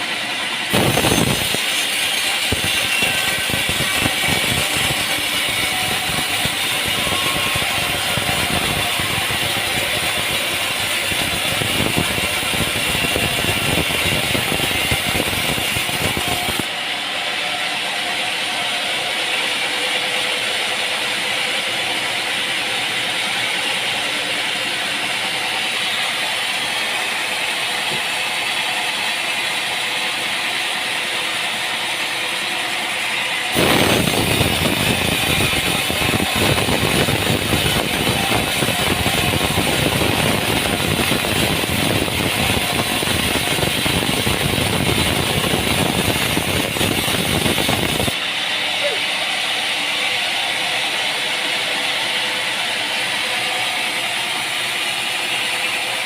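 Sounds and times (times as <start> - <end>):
sawmill machinery rattling: 0.0 - 56.0.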